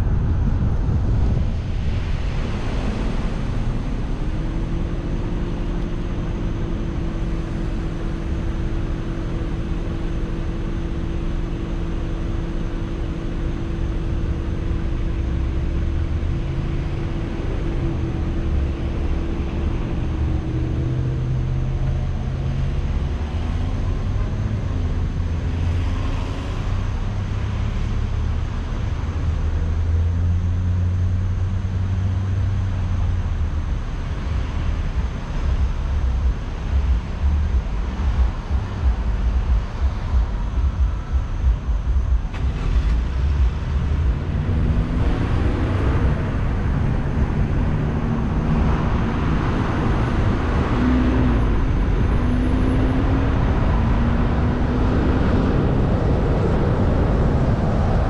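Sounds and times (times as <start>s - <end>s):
car engine and road noise: 0.0s - 58.0s
steady hum: 0.0s - 58.0s.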